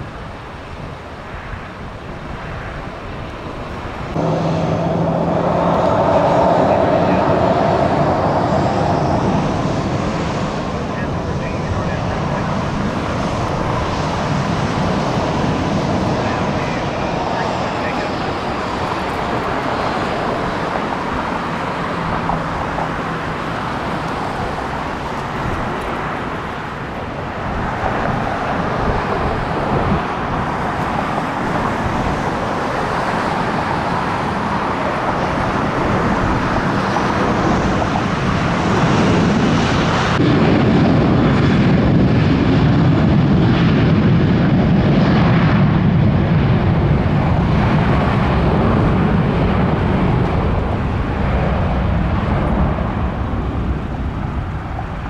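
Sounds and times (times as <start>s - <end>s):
jet engine rumble: 0.0s - 55.0s
jet rolling on runway: 0.0s - 55.0s.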